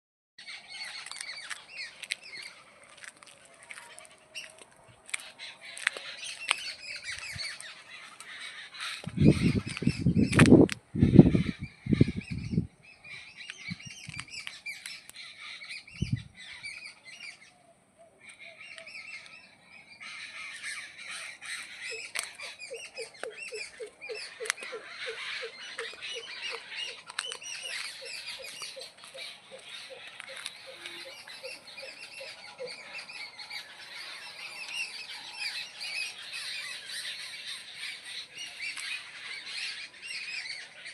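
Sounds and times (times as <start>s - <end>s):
birds chirping and squawking: 0.4s - 40.9s.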